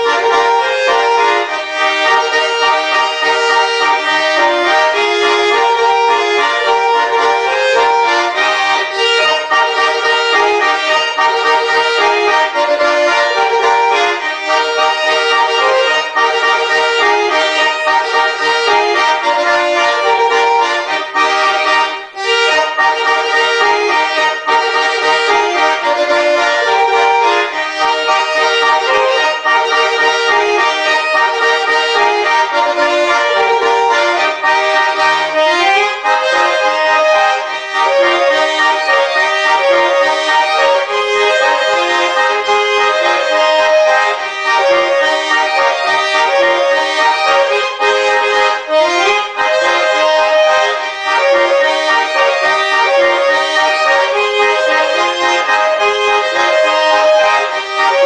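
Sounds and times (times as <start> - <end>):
button accordions playing folk tune: 0.0 - 58.0.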